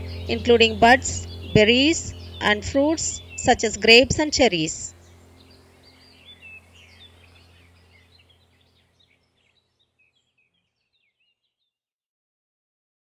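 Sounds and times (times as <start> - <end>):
low steady hum: 0.0 - 10.7
sparrows chirping: 0.0 - 11.6.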